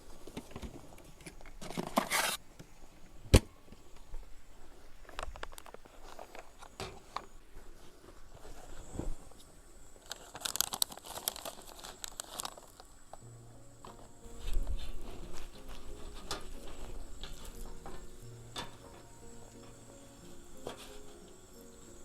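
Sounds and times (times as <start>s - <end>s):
packaging crinkling and rustling: 0.2s - 2.4s, 5.0s - 22.0s.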